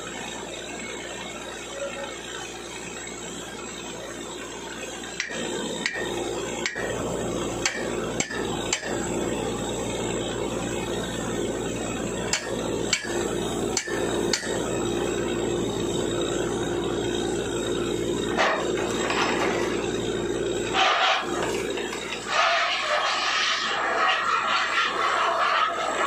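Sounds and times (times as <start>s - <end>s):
drilling machinery running: 0.0s - 26.0s.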